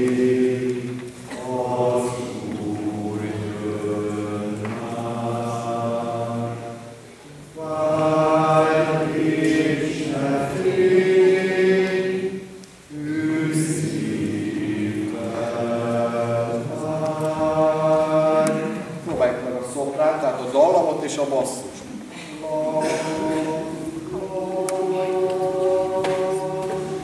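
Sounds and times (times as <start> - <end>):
choir singing a hymn: 0.0 - 27.0.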